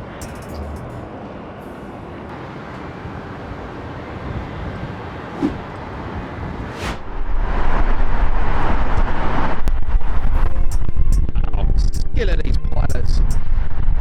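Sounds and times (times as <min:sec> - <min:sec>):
jet airliner engines landing: 0:00.0 - 0:14.0.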